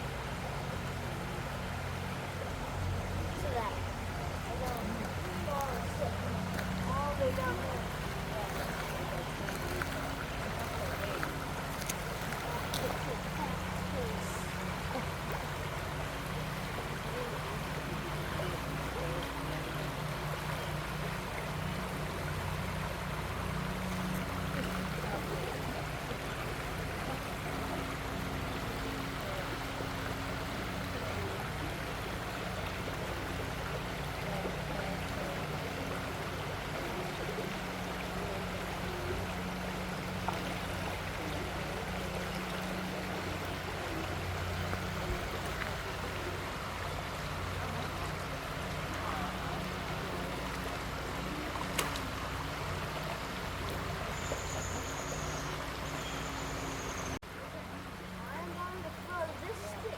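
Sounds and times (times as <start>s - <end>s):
creek water flowing: 0.0s - 59.9s.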